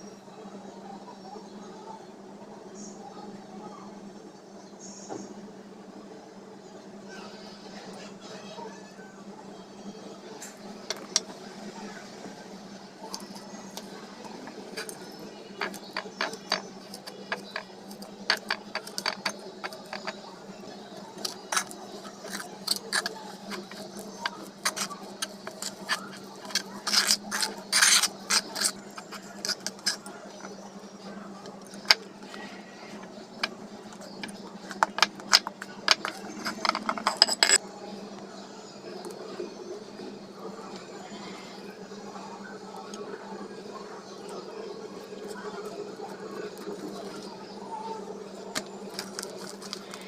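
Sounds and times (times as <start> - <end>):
steady low hum: 9.1 - 50.0.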